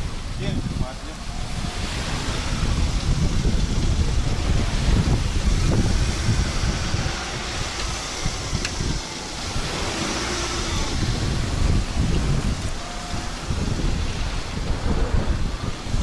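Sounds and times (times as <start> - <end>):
steady rushing hiss: 0.0 - 16.0
wind buffeting microphone: 0.0 - 16.0.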